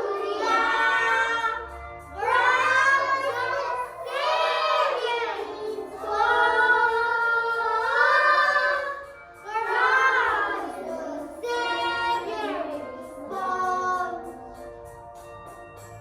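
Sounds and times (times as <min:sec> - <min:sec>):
young children singing: 0:00.0 - 0:14.8.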